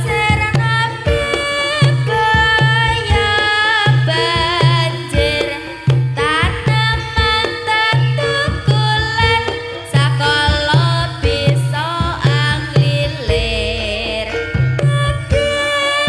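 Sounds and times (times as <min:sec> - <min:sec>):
hand drums beating: 0:00.0 - 0:16.0.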